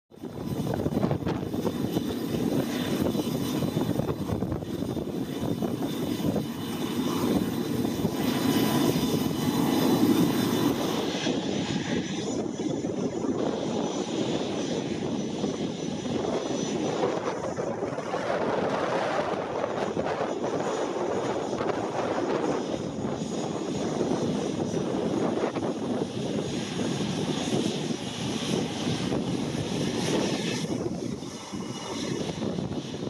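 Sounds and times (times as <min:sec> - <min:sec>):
jet engines running: 0:00.1 - 0:33.0.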